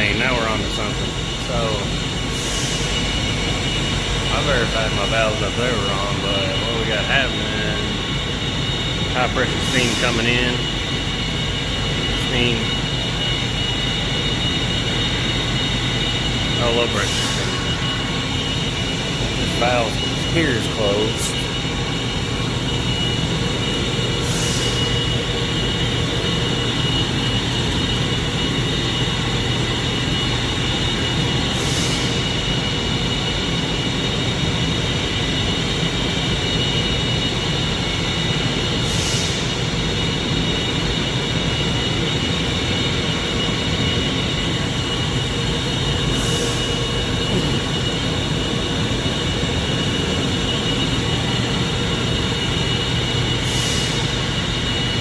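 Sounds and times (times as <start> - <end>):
steam piping hiss and drone: 0.0 - 55.0.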